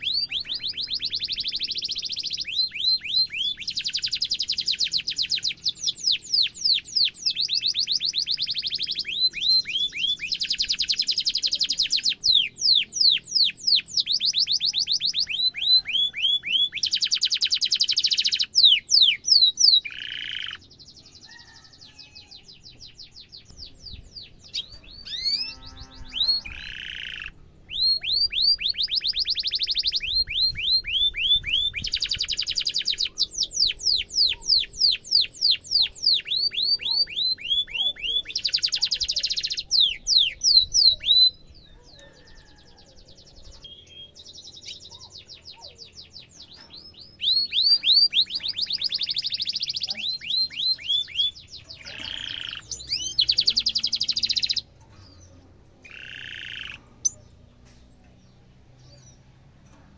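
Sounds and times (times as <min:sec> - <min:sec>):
canary singing: 0:00.0 - 0:59.8.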